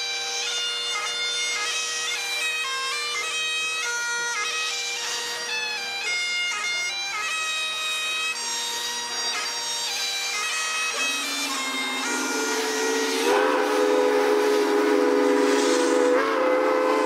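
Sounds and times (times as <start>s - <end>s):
bagpipes playing: 0.0s - 17.0s.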